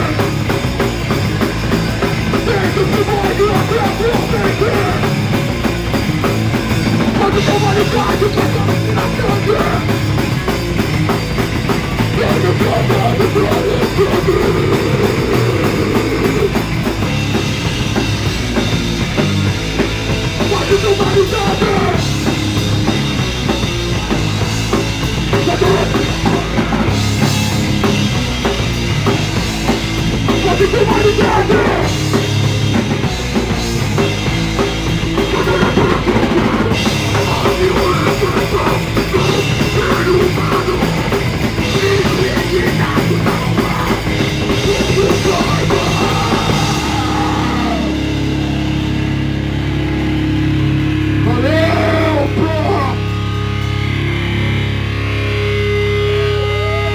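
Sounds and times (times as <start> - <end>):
drum kit: 0.0 - 56.9
punk rock band playing: 0.0 - 56.9.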